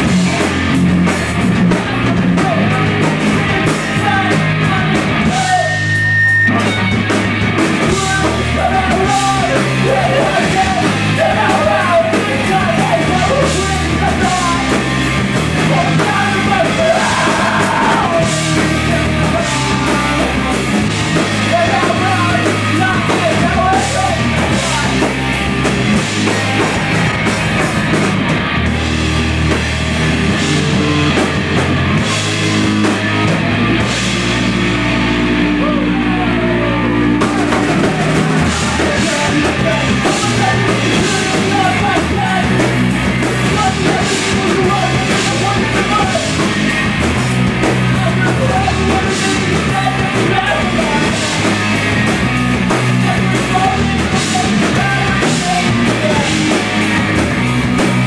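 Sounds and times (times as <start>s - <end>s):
bass guitar: 0.0s - 58.0s
distorted electric guitar: 0.0s - 58.0s
drum kit: 0.0s - 58.0s.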